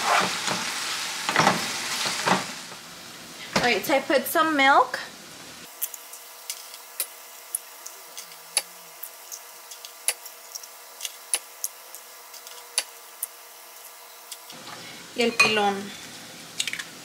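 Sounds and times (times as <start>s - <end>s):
faint kitchen hum: 0.0s - 17.0s.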